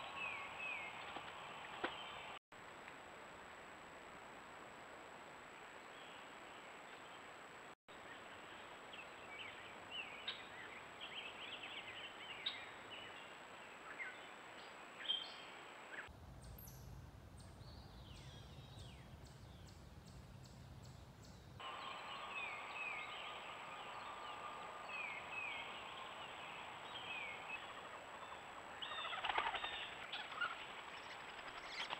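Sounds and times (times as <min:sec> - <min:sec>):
songbirds chirping: 0:00.0 - 0:02.4, 0:05.8 - 0:31.9
steady outdoor hiss: 0:00.0 - 0:31.9.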